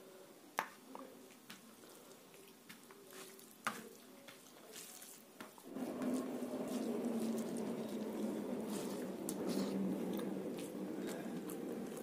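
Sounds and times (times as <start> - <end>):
fingers squishing rice: 0.6 - 12.0.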